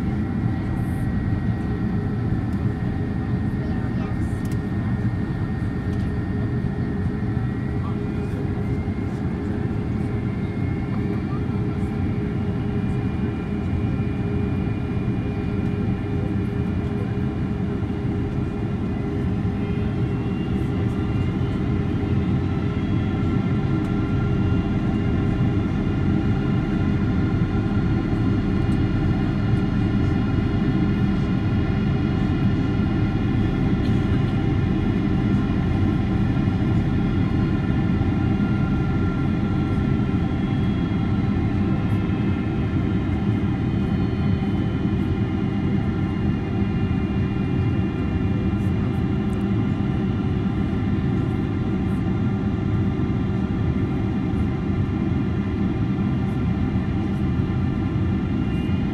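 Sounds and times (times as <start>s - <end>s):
airflow rush in aircraft cabin: 0.0s - 58.9s.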